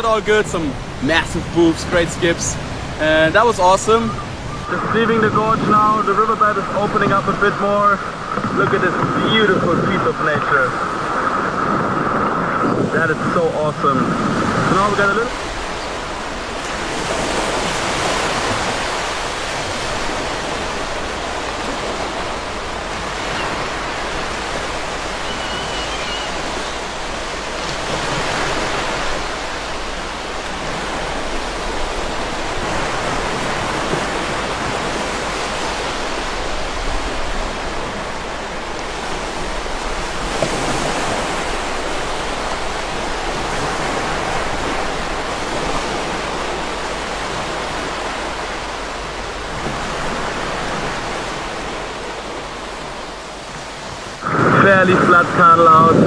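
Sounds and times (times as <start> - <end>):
river water rushing: 0.0 - 4.9, 14.5 - 55.8.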